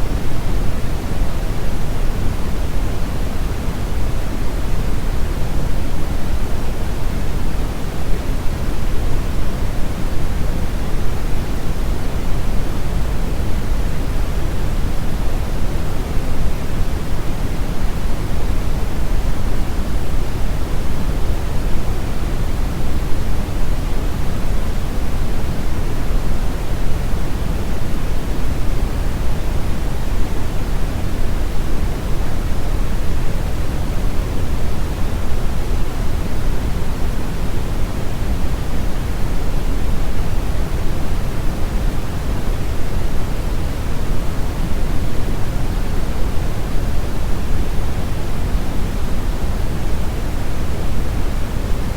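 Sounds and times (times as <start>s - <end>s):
pink noise hiss: 0.0s - 51.9s.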